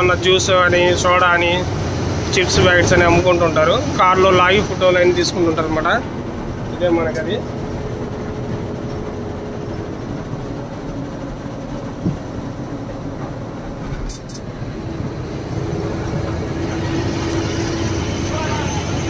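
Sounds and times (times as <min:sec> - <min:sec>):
lorry engine and road noise: 0:00.0 - 0:19.0.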